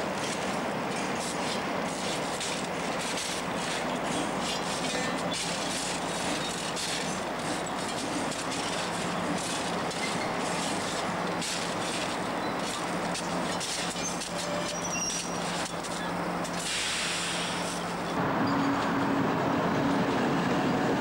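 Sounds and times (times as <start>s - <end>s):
wheels clattering over rails: 0.0s - 19.0s
diesel locomotive engine running: 0.0s - 21.0s.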